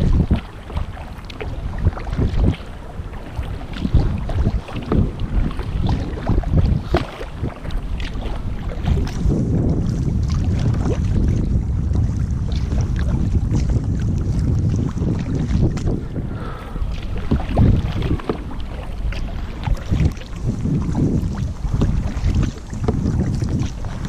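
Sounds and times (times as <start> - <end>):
kayak paddle splashing water: 0.0 - 24.0
wind rumble on microphone: 0.0 - 24.0.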